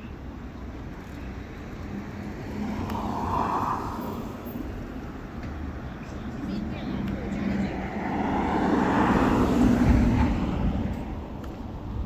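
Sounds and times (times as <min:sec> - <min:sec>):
city street traffic hum: 0:00.0 - 0:12.0.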